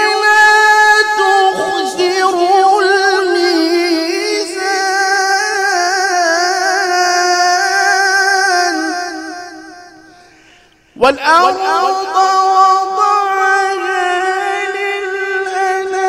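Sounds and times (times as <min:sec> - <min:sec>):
man chanting melodically: 0:00.0 - 0:10.3, 0:10.9 - 0:16.0.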